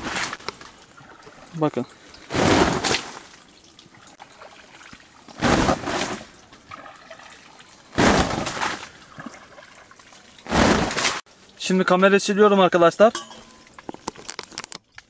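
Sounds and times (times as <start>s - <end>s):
water splashing on tent fabric: 0.0s - 12.2s.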